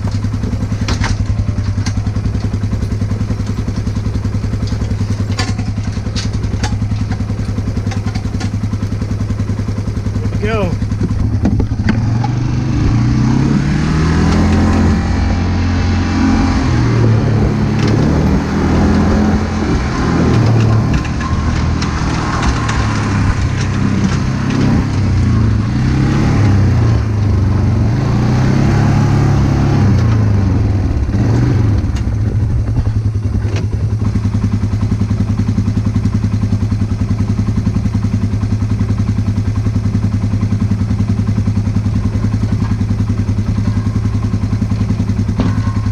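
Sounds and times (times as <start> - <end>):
engine revving under load: 0.0 - 45.9.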